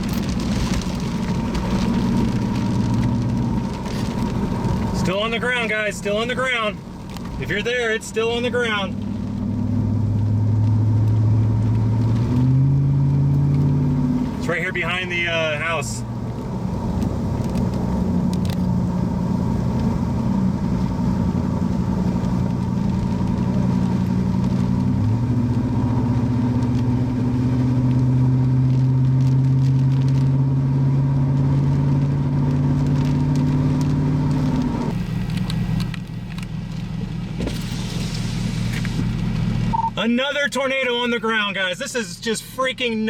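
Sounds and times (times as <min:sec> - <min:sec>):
car engine hum: 0:00.0 - 0:43.0
road noise: 0:00.0 - 0:43.0.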